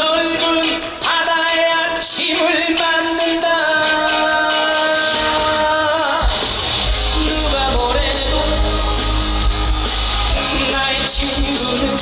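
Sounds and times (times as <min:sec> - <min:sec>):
live rock band: 0:00.0 - 0:12.0.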